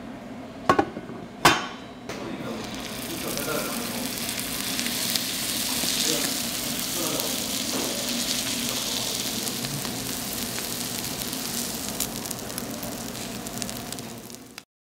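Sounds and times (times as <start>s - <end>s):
meat sizzling on a grill pan: 2.4s - 14.6s.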